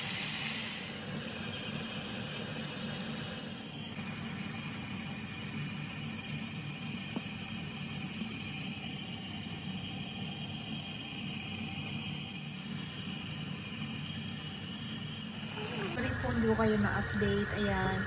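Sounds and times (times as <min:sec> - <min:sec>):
whirring hum with hiss: 0:00.0 - 0:18.0.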